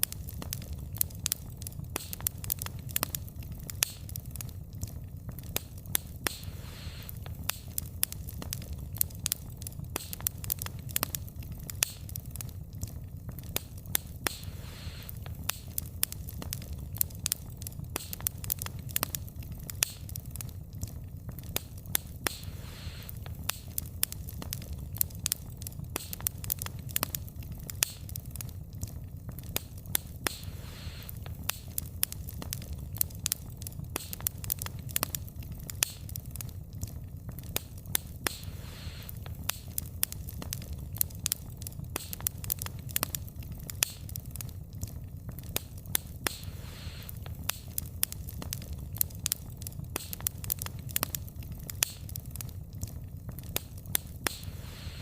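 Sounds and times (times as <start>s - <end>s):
burning logs crackling: 0.0s - 55.0s
low fire rumble: 0.0s - 55.0s.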